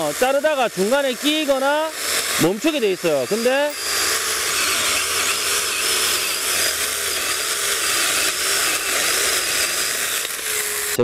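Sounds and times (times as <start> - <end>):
mini chainsaw cutting log: 0.0 - 11.0.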